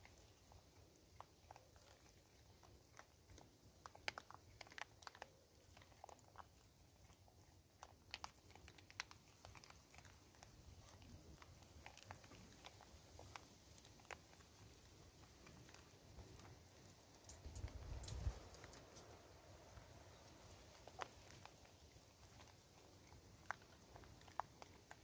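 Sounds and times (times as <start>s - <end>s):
monkeys crunching corn kernels: 0.0s - 25.0s.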